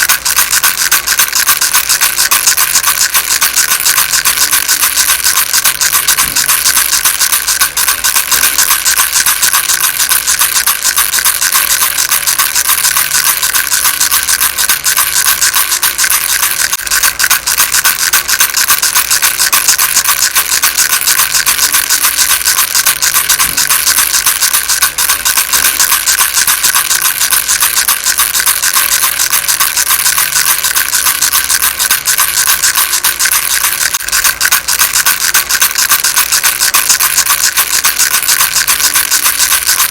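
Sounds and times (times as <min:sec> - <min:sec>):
rattle shaken: 0:00.0 - 0:39.9.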